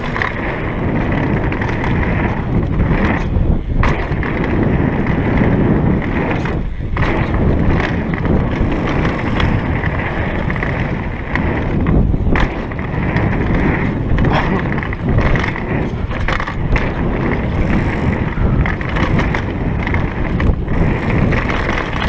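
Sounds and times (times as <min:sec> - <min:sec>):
bike rattling: 0:00.0 - 0:22.0
tyres rolling over dirt and rocks: 0:00.0 - 0:22.0
wind rushing over microphone: 0:00.0 - 0:22.0.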